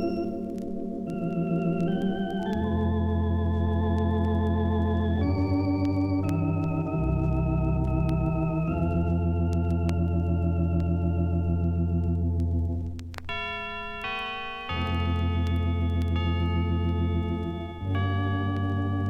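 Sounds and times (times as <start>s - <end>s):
organ chords with vibrato: 0.0s - 19.0s.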